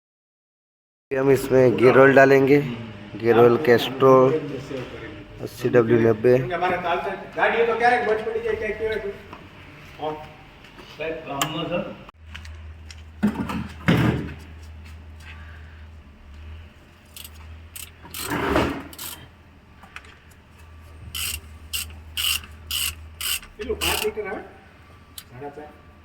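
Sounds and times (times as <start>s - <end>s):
steady low hum: 1.1s - 26.0s.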